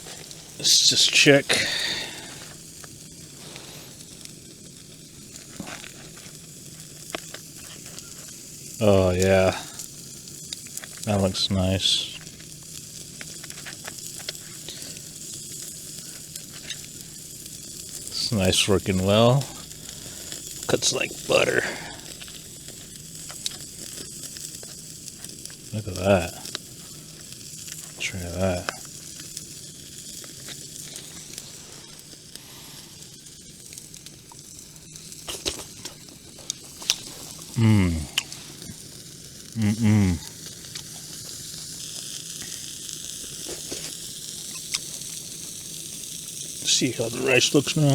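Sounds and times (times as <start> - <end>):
fat popping and crackling: 0.0 - 47.9
steak sizzling on a grill: 0.0 - 47.9.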